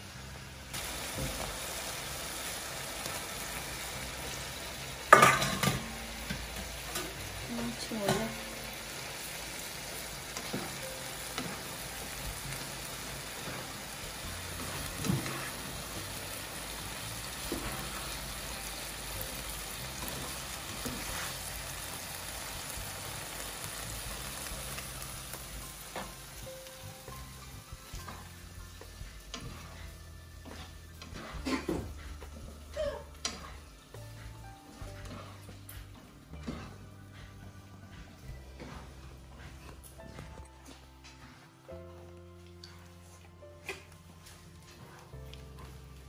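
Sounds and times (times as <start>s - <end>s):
pasta sizzling in a frying pan: 0.0s - 46.0s.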